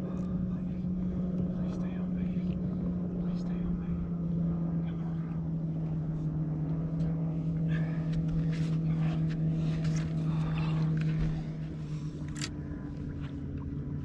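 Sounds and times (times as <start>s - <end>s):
trolling motor humming: 0.0s - 14.0s.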